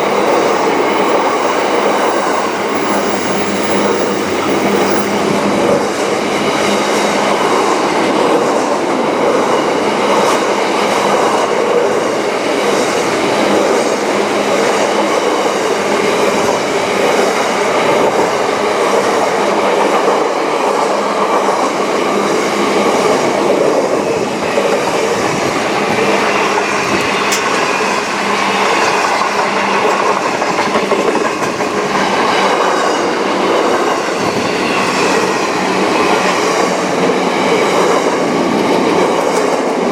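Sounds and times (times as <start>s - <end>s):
train cars rolling on rails: 0.0s - 39.9s.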